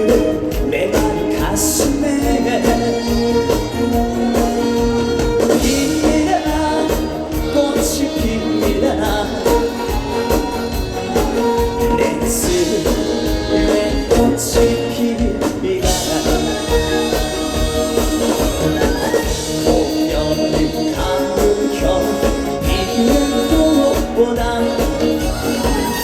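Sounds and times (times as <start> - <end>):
live band with steady beat: 0.0 - 26.0
person singing: 0.0 - 26.0.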